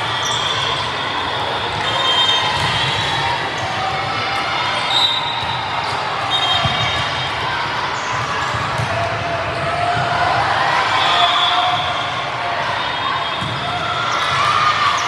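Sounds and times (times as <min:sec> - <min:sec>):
echoing hubbub of voices: 0:00.0 - 0:15.0.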